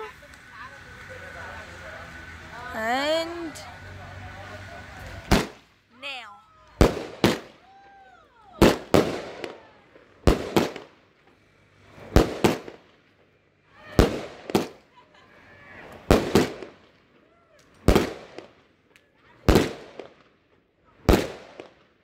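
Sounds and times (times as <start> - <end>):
firework bangs and crackle: 0.0 - 22.0.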